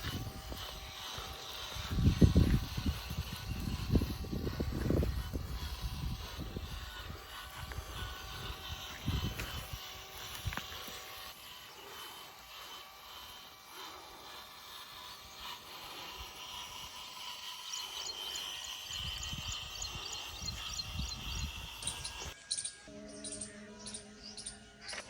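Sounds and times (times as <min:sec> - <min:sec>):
small motor whining: 0:00.0 - 0:25.0.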